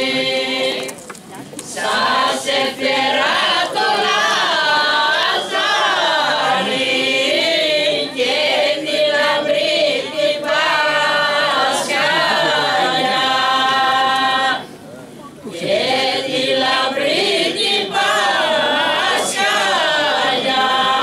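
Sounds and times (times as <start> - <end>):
mixed choir singing unaccompanied: 0.0 - 1.0, 1.6 - 14.8, 15.5 - 21.0.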